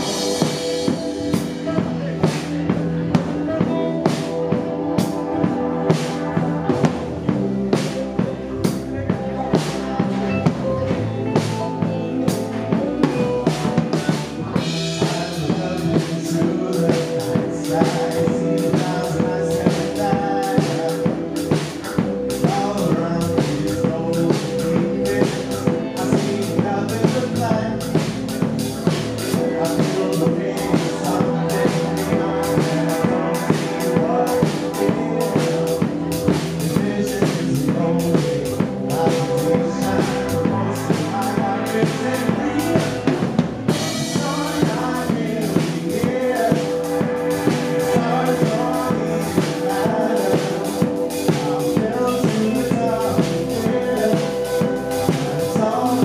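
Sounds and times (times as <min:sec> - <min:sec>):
drum kit beat: 0:00.0 - 0:56.0
electric guitar: 0:00.0 - 0:56.0
keyboard: 0:00.0 - 0:56.0
man singing: 0:00.0 - 0:56.0.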